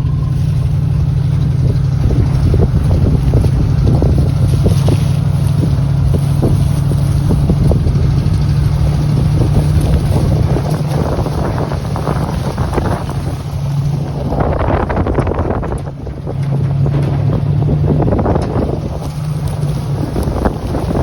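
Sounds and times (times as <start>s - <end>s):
crackling: 0.0s - 21.0s
machine droning: 0.0s - 21.0s
wind noise on microphone: 0.0s - 21.0s.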